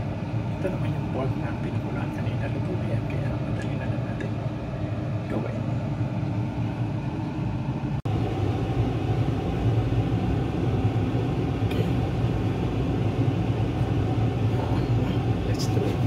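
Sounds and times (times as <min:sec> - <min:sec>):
low rumbling appliance hum: 0:00.0 - 0:16.0.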